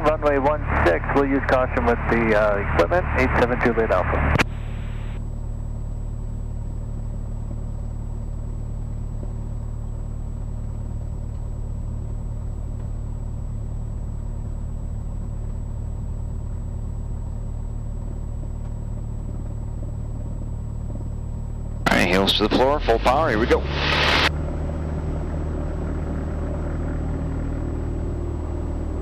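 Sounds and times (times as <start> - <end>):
piston aircraft engine droning: 0.0 - 29.0.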